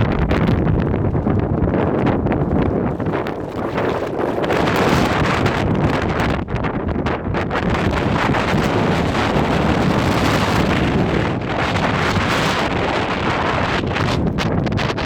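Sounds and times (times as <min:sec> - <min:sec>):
plastic tent flapping: 0:00.0 - 0:15.0
wind gusts buffeting microphone: 0:00.0 - 0:15.0.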